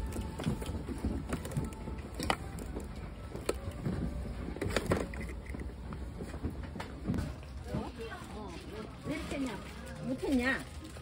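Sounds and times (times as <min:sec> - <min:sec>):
low store background rumble: 0:00.0 - 0:11.0
plastic toys rustling and clicking: 0:00.0 - 0:11.0.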